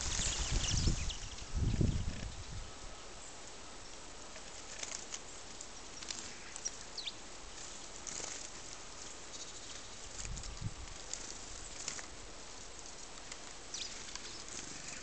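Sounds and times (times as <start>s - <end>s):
small birds chipping and calling: 0.0s - 15.0s.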